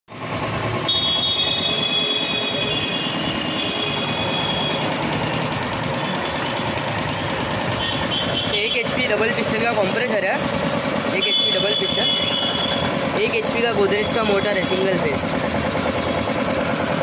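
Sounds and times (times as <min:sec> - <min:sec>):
air compressor running: 0:00.1 - 0:17.0.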